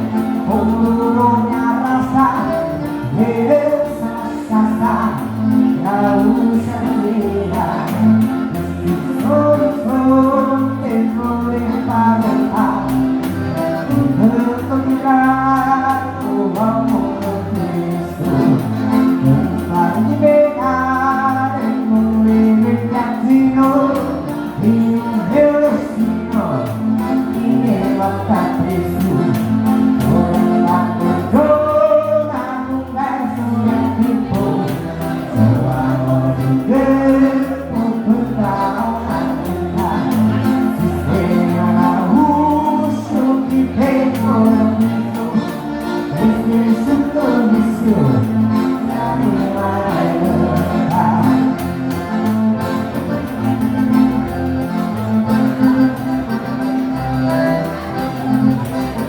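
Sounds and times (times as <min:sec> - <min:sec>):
accordion-led band playing: 0:00.0 - 0:59.0.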